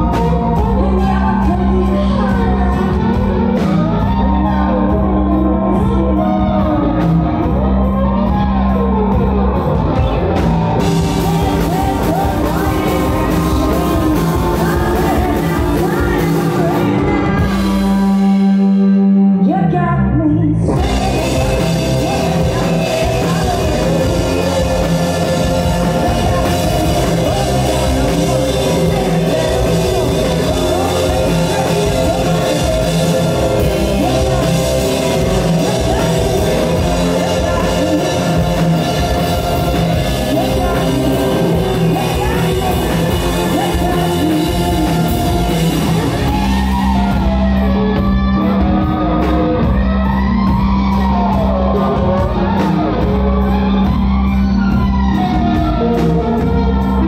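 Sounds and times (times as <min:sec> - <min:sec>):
woman singing: 0:00.0 - 0:18.5, 0:19.4 - 0:57.0
rock band playing live: 0:00.0 - 0:57.0.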